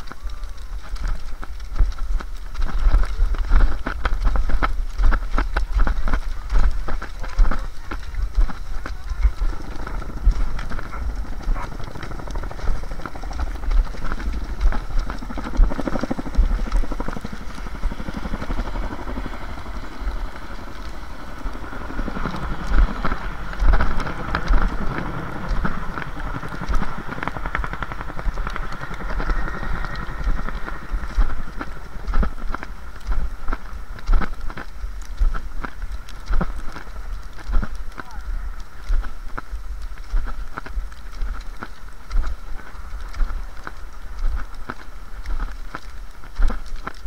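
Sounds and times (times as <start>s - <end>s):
ski poles clicking in snow: 0.0s - 47.0s
wind rumbling on microphone: 0.0s - 47.0s.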